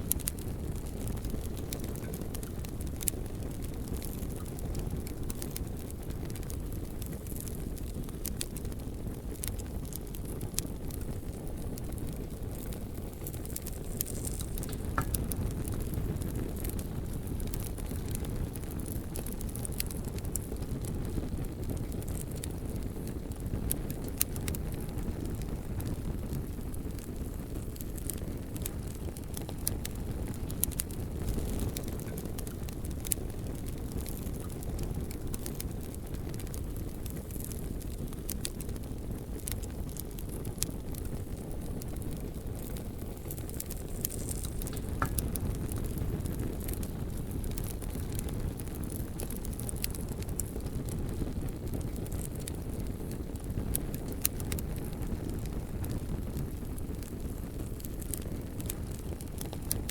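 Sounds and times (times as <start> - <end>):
burning wood crackling and popping: 0.0 - 59.9
low rumble of flames: 0.0 - 59.9.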